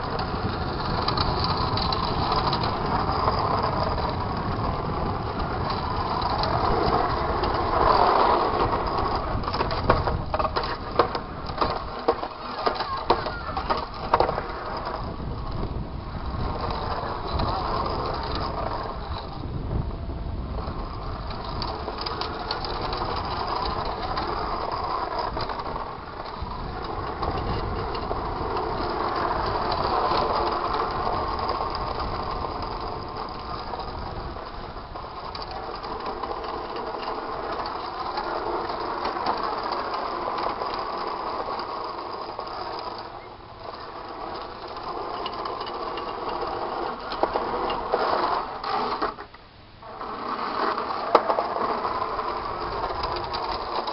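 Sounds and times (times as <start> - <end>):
small clicks and rattles: 0.0 - 19.8, 20.4 - 53.9.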